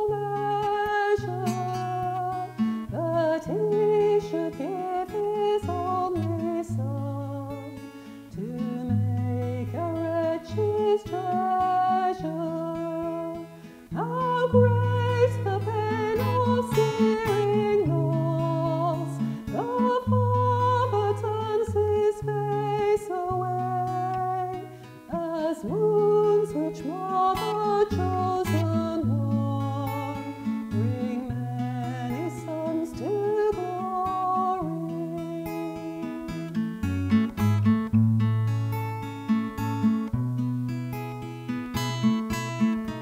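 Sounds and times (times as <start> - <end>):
woman singing: 0.0 - 37.6
acoustic guitar: 0.0 - 43.0.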